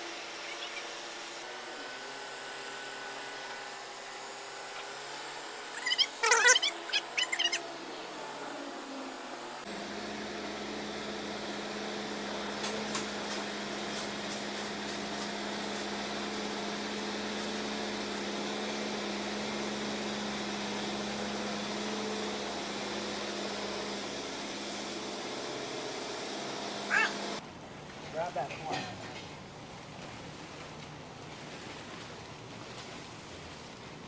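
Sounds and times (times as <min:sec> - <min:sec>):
mechanical hum of equipment: 0:00.0 - 0:34.0.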